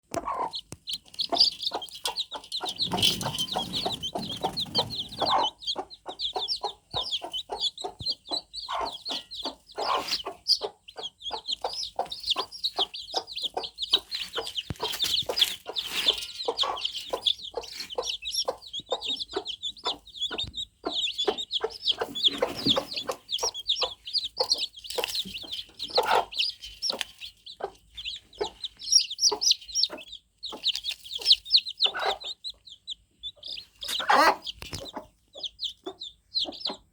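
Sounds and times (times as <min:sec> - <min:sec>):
chicks cheeping: 0:00.0 - 0:36.9.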